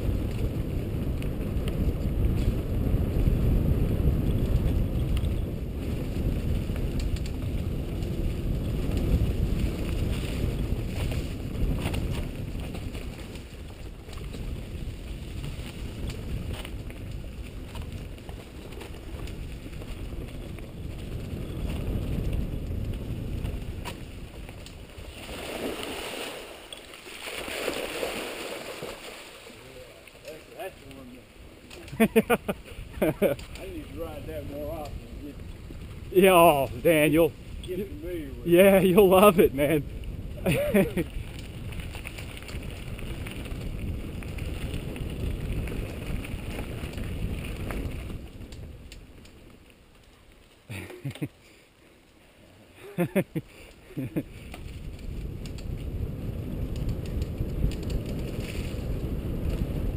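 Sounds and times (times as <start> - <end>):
bike clicks and rattles: 0.0 - 25.2, 30.1 - 38.0, 38.9 - 52.2, 52.8 - 59.9
wind rumbling on microphone: 0.0 - 51.3, 52.3 - 59.9.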